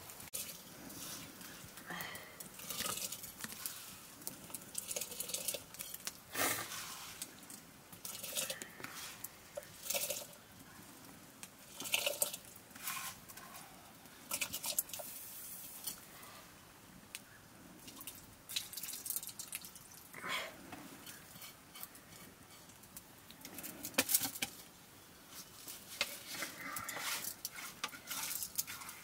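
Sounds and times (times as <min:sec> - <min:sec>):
wet rice squishing and pattering: 0:00.0 - 0:16.2, 0:17.0 - 0:29.0.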